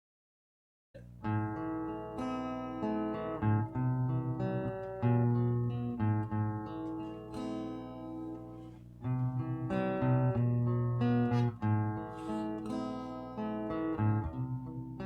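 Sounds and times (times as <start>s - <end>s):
acoustic guitar strumming: 1.0s - 15.0s.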